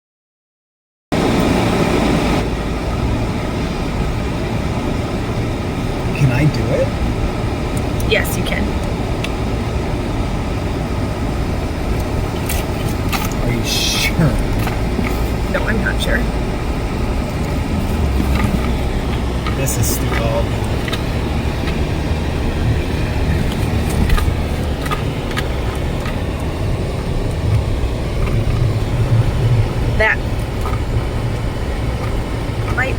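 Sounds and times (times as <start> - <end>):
car cabin road noise: 1.1 - 32.9.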